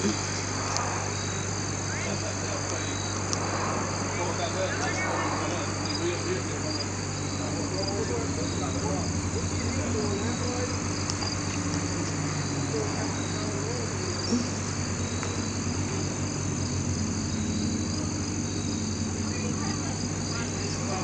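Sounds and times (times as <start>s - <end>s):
crickets chirring: 0.0s - 21.0s
engine humming: 0.0s - 21.0s.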